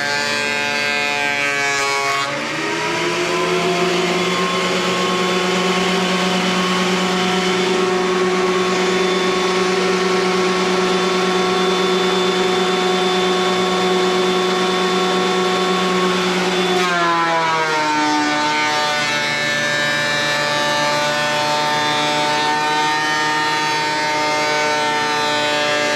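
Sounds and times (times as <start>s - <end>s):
thickness planer motor whine: 0.0s - 25.9s.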